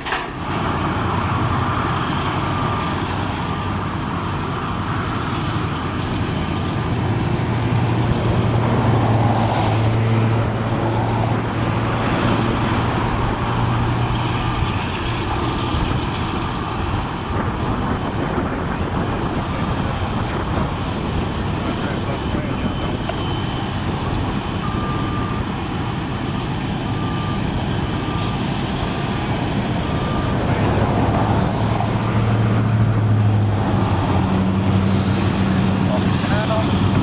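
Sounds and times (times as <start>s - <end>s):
freight locomotive engine drone: 0.0s - 37.0s.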